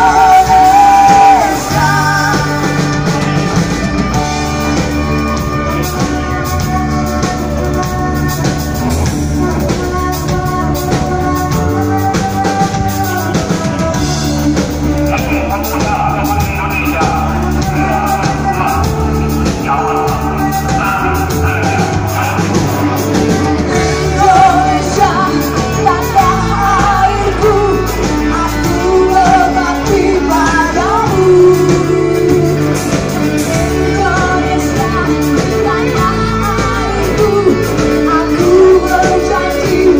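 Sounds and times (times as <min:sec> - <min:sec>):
pop rock band playing: 0:00.0 - 0:39.9
woman singing: 0:00.0 - 0:39.9.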